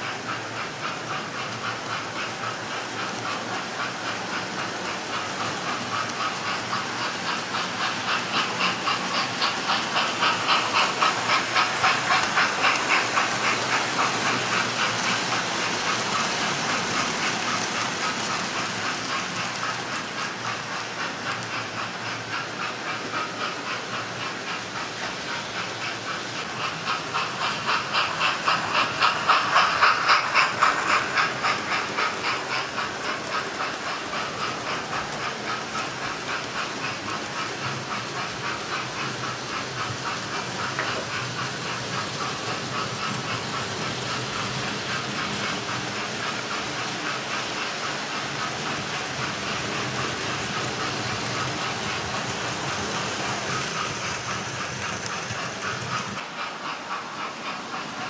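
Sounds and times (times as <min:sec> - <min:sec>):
model trains running on tracks: 0:00.0 - 0:58.0
wheels clicking over rail joints: 0:00.0 - 0:58.0.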